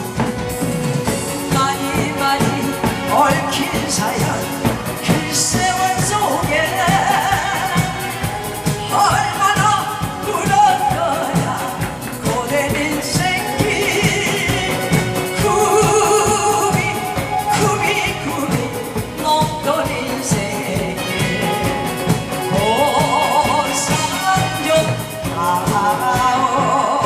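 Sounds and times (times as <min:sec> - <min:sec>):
accompaniment with steady beat: 0:00.0 - 0:26.8
person singing live: 0:00.0 - 0:27.0.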